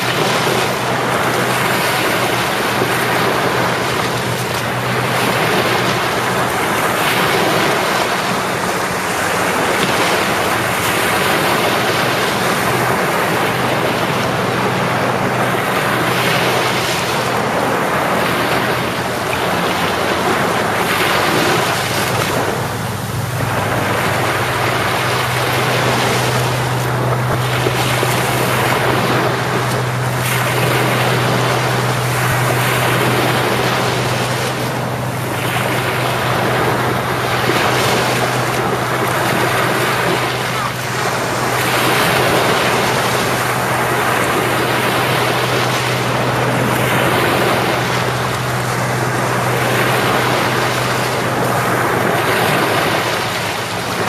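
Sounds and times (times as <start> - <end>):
low steady hum: 0.0 - 54.0
sea waves washing onto shore: 0.0 - 54.0.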